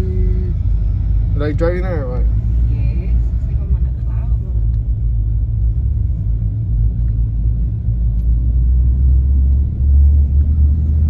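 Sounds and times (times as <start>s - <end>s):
pickup truck driving rumble: 0.0s - 11.0s.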